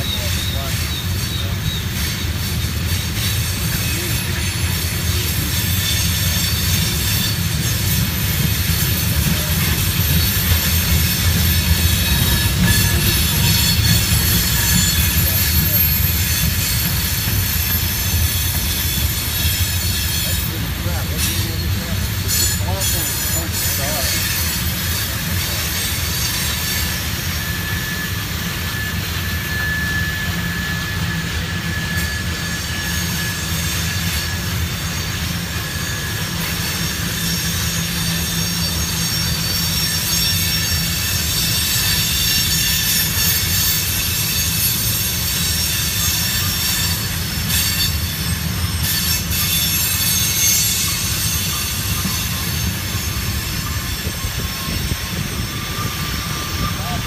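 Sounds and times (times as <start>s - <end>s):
high wheel squeal: 0.0s - 57.0s
train wheels rumbling on rail: 0.0s - 57.0s.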